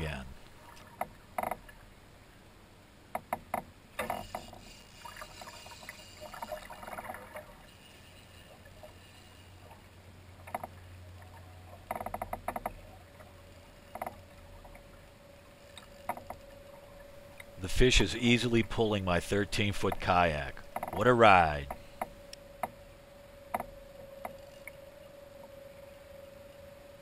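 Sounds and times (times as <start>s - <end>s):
faint steady hum: 0.0s - 27.0s
low steady rumble: 4.8s - 27.0s.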